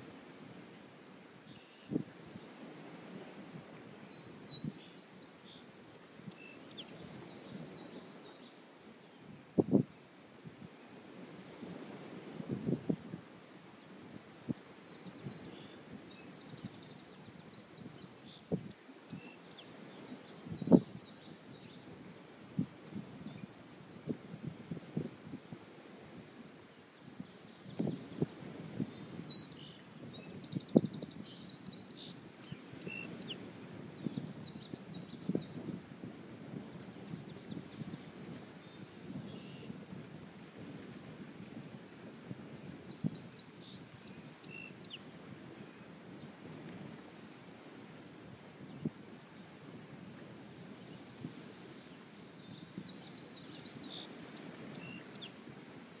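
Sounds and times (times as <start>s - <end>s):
songbirds chirping and twittering: 1.4s - 23.8s, 25.9s - 41.5s, 42.4s - 49.6s, 50.2s - 55.7s.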